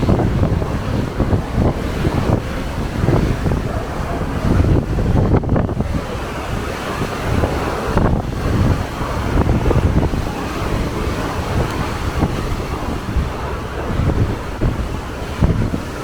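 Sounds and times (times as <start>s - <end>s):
sea water rushing: 0.0s - 16.0s
wind buffeting microphone: 0.0s - 16.0s.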